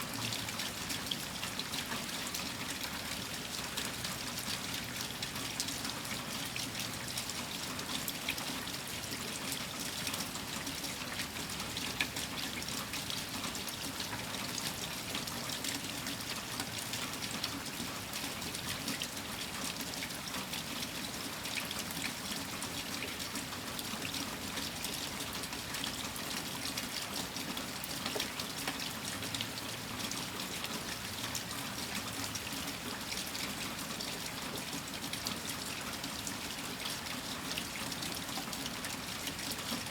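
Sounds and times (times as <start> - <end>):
rain drops: 0.0 - 39.9.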